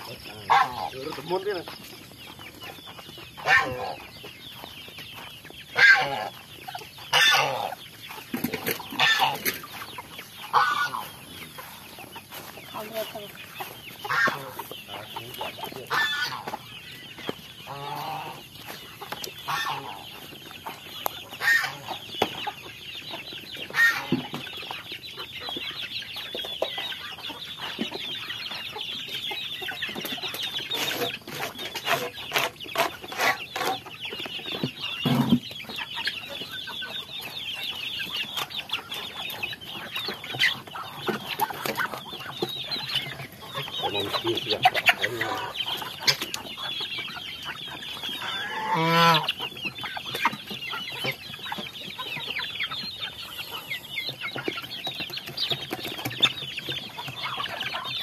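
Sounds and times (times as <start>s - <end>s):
young chickens peeping and clucking: 0.0s - 58.0s.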